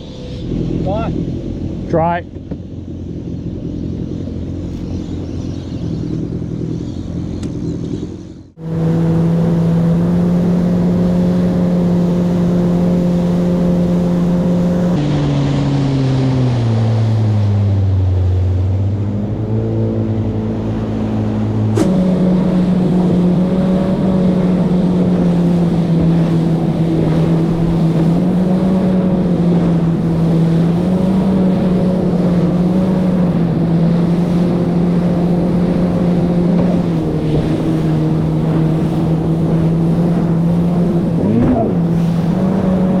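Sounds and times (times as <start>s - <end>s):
jet ski engine: 0.0s - 43.0s
wind and water rushing: 8.5s - 43.0s.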